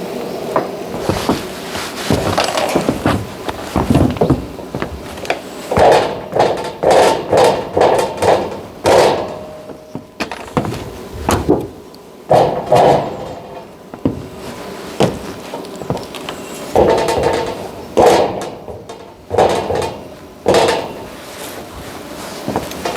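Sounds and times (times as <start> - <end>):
knocks and clatter: 0.6 - 14.4, 15.0 - 22.9.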